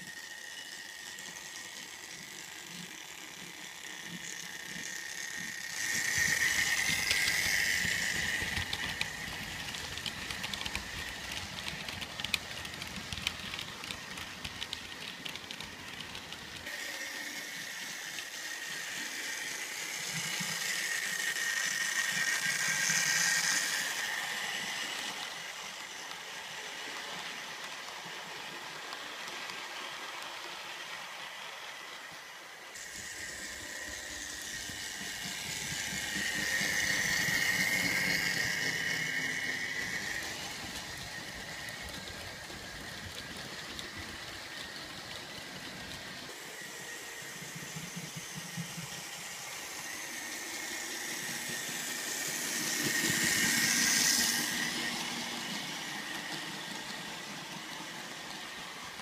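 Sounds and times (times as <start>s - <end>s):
model train motor whine: 0.0s - 59.0s.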